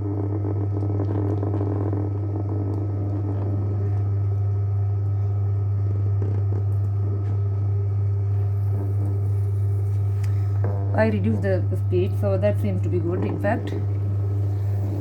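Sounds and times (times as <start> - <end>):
pottery wheel motor hum: 0.0 - 15.0.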